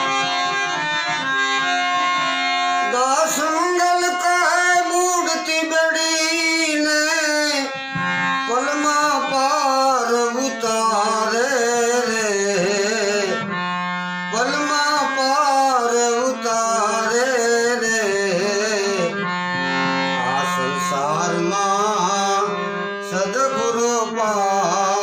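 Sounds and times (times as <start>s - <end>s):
devotional song melody: 0.0s - 25.0s.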